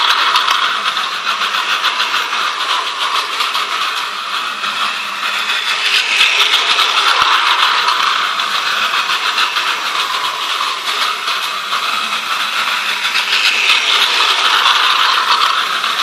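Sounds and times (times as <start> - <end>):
toy train motor whirring: 0.0 - 16.0.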